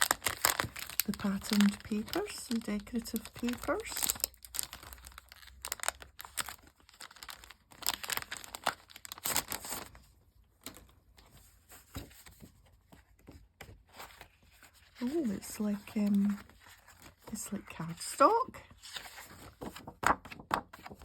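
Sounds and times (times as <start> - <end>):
paper rustling and crinkling: 0.0 - 21.0.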